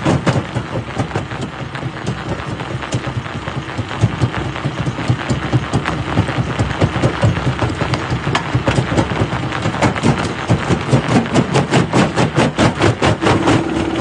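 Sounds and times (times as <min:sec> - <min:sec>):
crusher mechanical rumble: 0:00.0 - 0:14.0.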